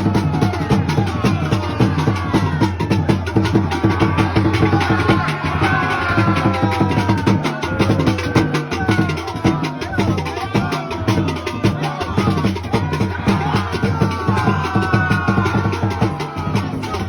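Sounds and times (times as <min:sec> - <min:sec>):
fast drumming and percussion: 0:00.0 - 0:17.0.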